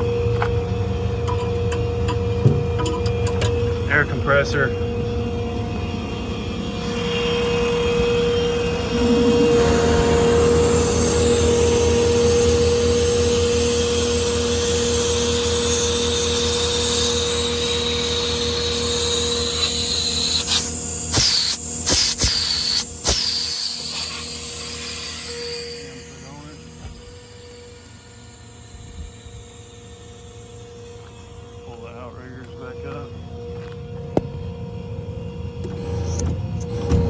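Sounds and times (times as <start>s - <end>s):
air compressor pulsing drone: 0.0s - 37.0s
compressor whine: 0.0s - 37.0s.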